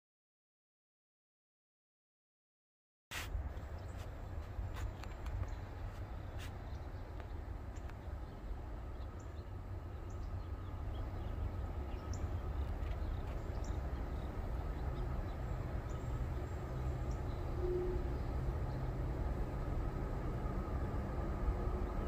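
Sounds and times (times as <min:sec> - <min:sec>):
diesel freight train rumble: 0:03.2 - 0:22.0.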